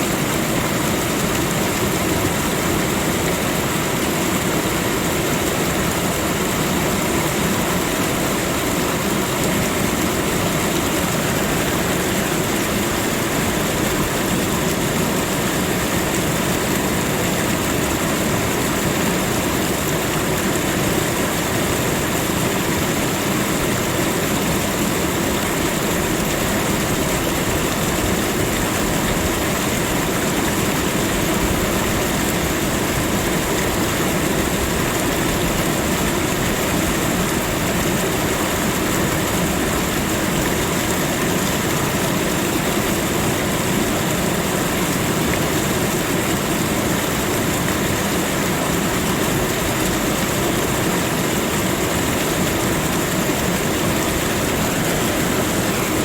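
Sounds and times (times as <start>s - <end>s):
rushing nature ambience: 0.0s - 56.0s.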